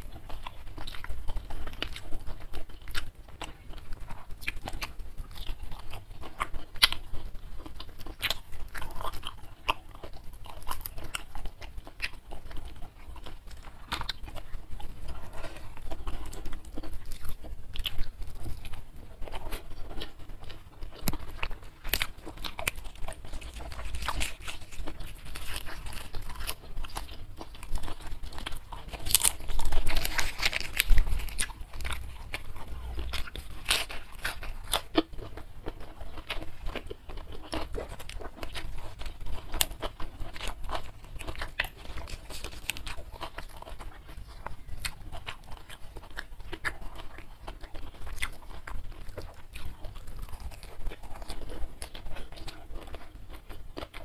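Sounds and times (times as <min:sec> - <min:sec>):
crunching food: 0:00.0 - 0:54.0
person chewing: 0:00.0 - 0:54.0.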